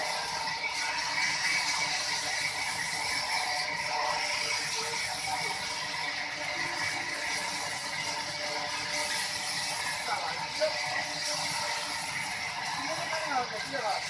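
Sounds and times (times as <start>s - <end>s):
sawmill machinery rattling: 0.0s - 14.0s.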